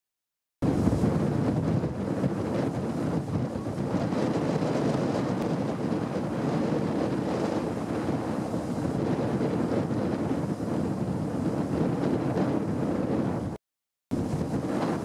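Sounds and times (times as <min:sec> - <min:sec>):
wind buffeting microphone: 0:00.6 - 0:15.0.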